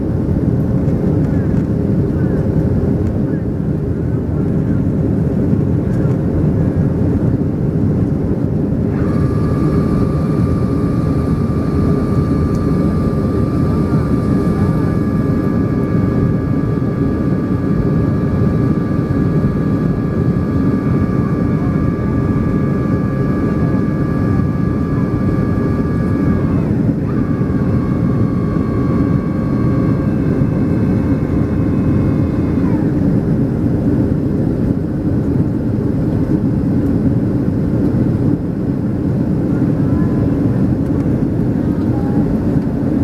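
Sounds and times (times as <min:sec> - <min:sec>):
deep rush of air and engines: 0:00.0 - 0:43.0
high engine whine: 0:00.0 - 0:43.0.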